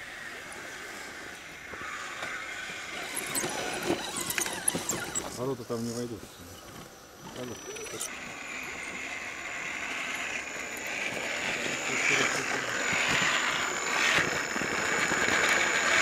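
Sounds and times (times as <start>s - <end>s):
rc car motor whirring: 0.0s - 16.0s.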